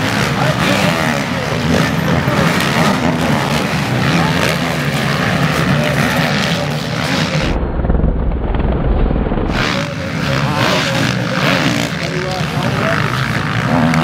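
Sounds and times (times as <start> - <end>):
motocross bikes racing past: 0.0 - 7.6, 9.5 - 14.0.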